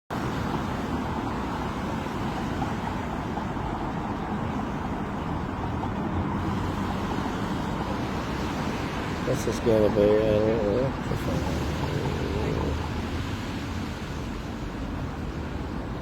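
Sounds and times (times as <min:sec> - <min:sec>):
road traffic rumble: 0:00.1 - 0:16.0.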